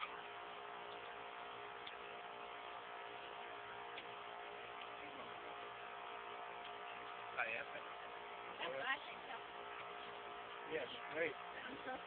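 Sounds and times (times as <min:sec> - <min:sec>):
background hum and hiss: 0:00.0 - 0:12.0
faint steady tones: 0:00.0 - 0:12.0.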